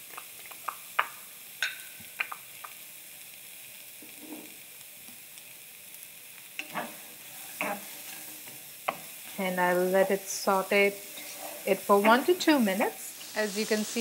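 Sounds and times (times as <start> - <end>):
onions sizzling in a pan: 0.0 - 14.0.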